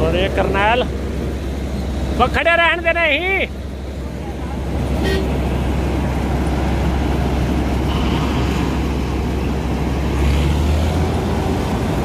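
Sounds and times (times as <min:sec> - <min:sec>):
combine harvester and tractor engines: 0:00.0 - 0:12.0.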